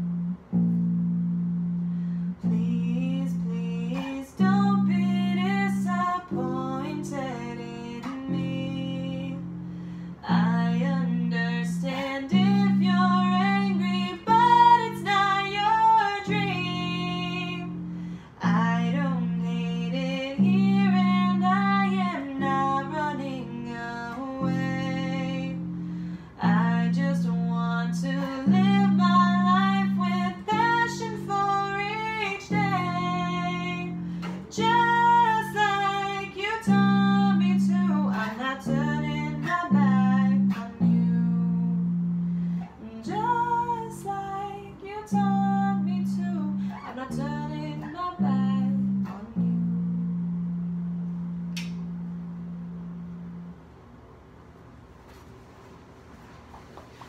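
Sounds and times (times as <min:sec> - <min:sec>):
plucked electric bass notes: 0:00.0 - 0:53.7
woman singing: 0:02.3 - 0:50.6.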